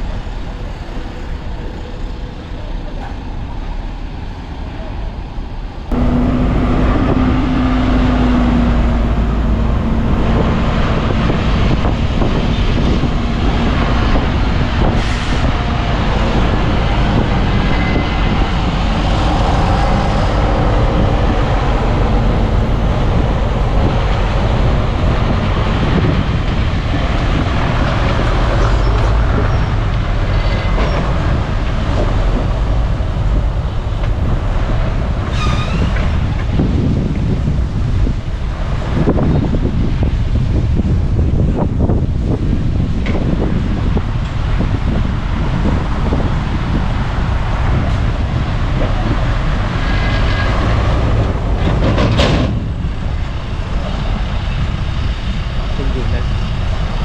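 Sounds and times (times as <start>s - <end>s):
heavy diesel machinery running: 5.6s - 57.0s.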